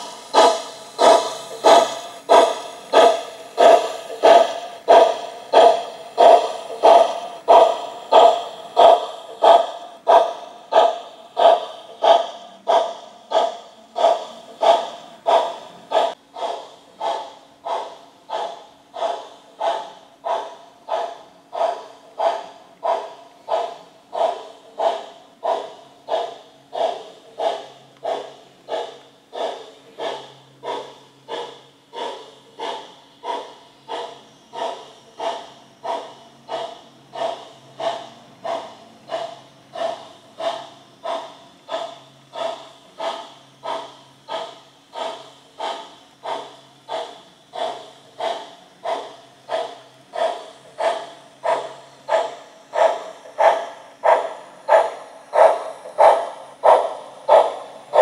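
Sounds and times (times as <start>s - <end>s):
model steam locomotive chuffing: 0.0s - 58.0s.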